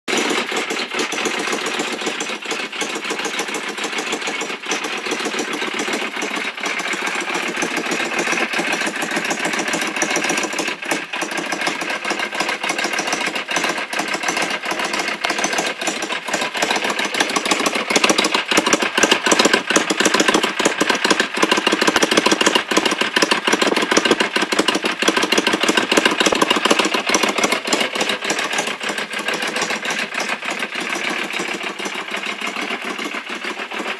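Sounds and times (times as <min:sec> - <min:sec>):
motorcycle engine deep exhaust: 0:00.1 - 0:33.9.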